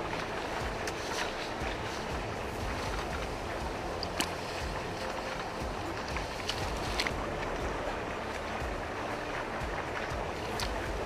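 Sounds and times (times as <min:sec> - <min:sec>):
splashes of wading steps: 0:00.0 - 0:11.0
steady wind: 0:00.0 - 0:11.0
water noise: 0:00.0 - 0:11.0.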